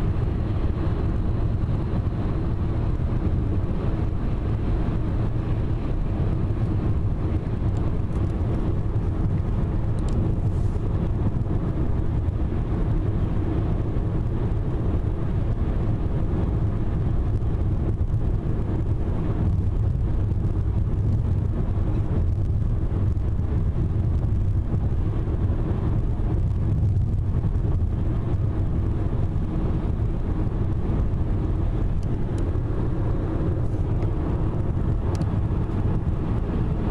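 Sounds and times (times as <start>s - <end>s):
car road and engine noise: 0.0s - 36.9s.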